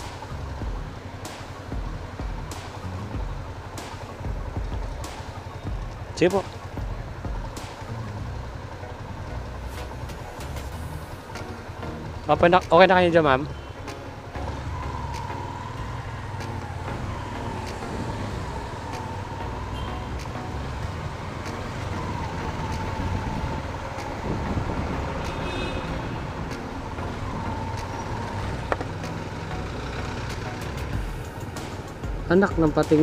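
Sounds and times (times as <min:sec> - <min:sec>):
motorcycle engine and road rumble: 0:00.0 - 0:33.0.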